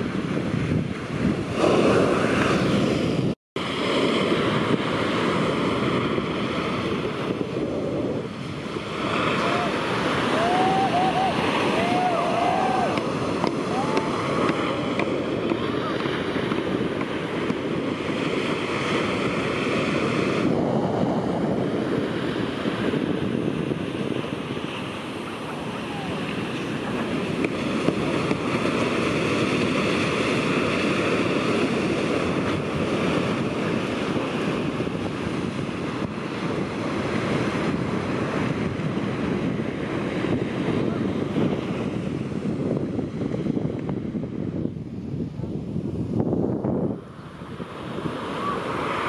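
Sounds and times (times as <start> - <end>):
waves breaking on beach: 0.0 - 49.0.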